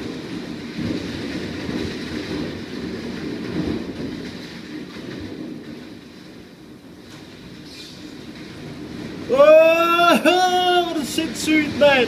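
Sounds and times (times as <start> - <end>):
heavy rain downpour: 0.0 - 12.0.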